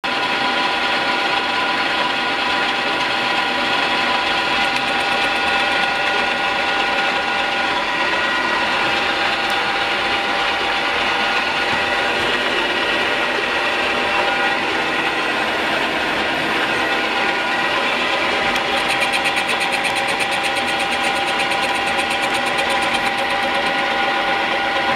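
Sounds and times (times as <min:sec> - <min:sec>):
lathe running: 0:00.1 - 0:24.9.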